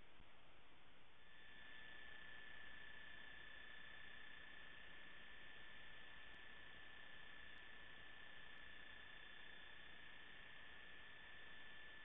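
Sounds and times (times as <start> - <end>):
faint electronic hiss: 0.0 - 12.0.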